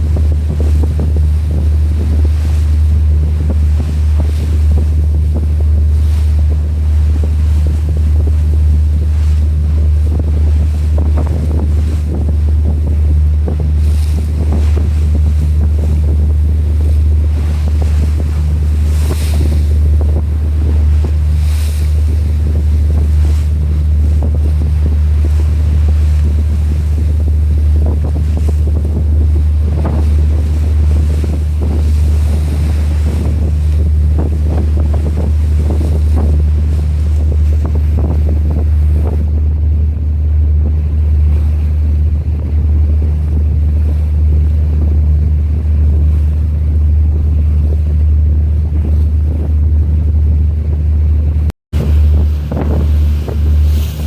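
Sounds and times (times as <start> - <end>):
rushing water: 0.0 - 54.0
ship engine drone: 0.0 - 54.0
wind buffeting microphone: 0.0 - 54.0.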